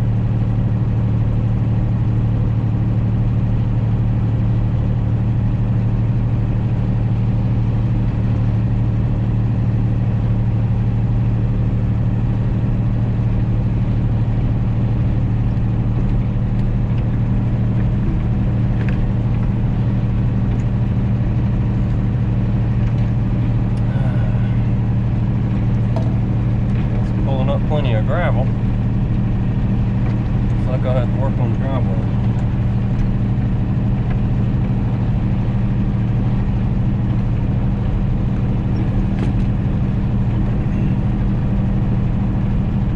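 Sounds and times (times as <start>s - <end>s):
tractor diesel engine droning: 0.0s - 42.9s.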